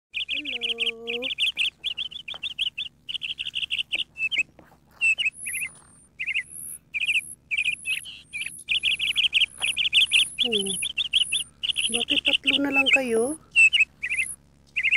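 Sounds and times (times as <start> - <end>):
nestling birds cheeping: 0.1 - 14.9
thin high peeps: 0.1 - 14.9.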